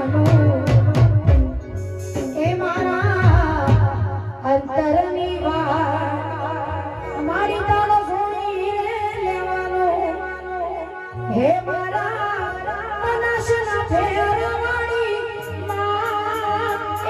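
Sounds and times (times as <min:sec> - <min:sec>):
woman singing into microphone: 0:00.0 - 0:17.0.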